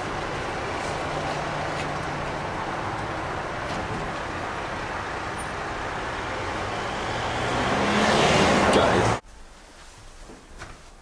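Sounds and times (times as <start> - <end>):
road traffic noise: 0.0 - 9.2.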